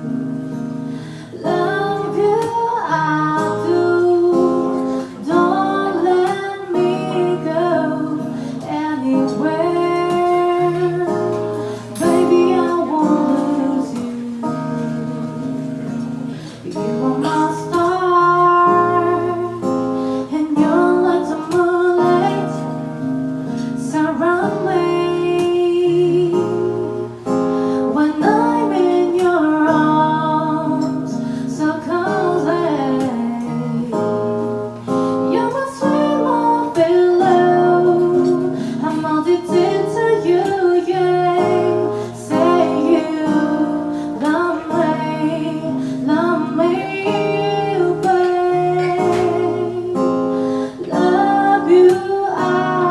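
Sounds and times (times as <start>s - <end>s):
plucked guitar: 0.0s - 52.9s
woman singing: 0.0s - 52.9s.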